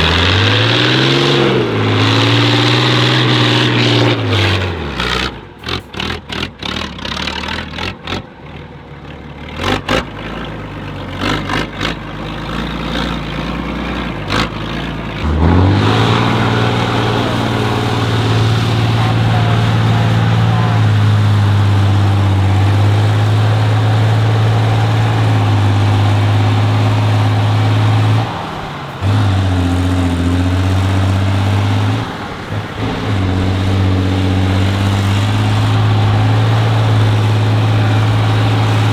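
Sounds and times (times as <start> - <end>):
truck engine under load: 0.0 - 38.9.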